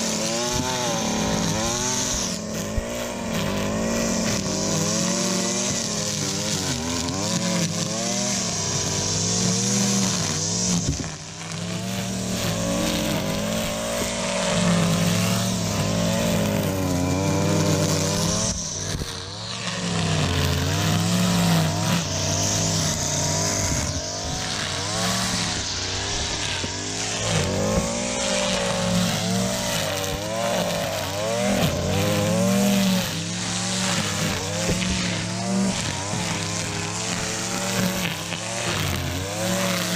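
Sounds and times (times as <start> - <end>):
string trimmer engine revving: 0.0 - 39.9
trimmer line hissing through grass: 0.0 - 39.9.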